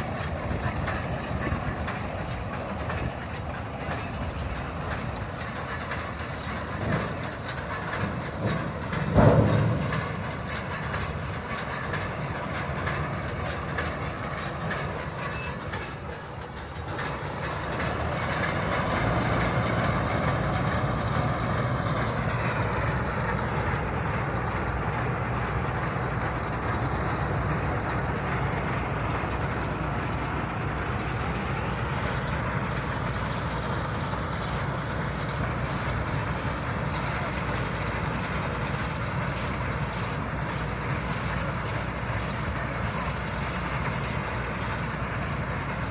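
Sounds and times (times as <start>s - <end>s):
baler mechanical rattle: 0.0s - 45.9s.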